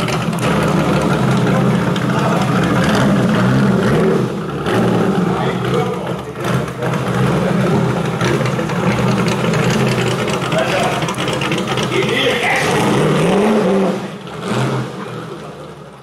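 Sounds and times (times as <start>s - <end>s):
sports car engine at low revs: 0.0s - 16.0s.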